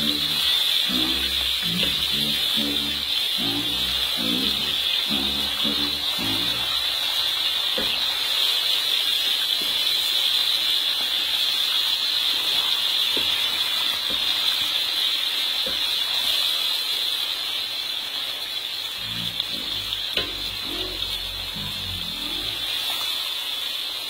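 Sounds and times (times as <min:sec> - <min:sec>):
meat sizzling in a wok: 0:00.0 - 0:24.0.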